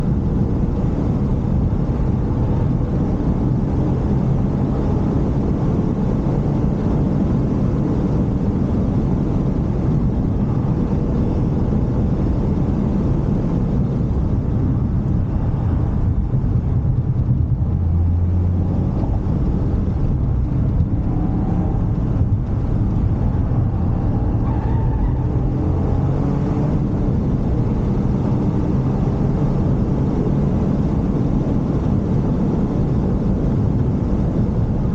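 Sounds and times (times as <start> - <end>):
car engine rumble: 0.0 - 34.9
road noise: 0.0 - 34.9.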